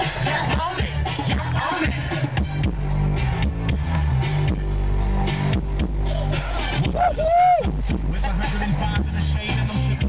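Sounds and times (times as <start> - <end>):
music with electric guitar: 0.0 - 10.0.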